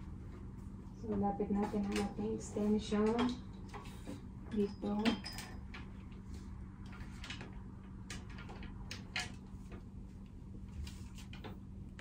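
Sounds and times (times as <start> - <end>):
steady low hum: 0.0 - 12.0
light clicks and knocks of handling: 1.0 - 11.6.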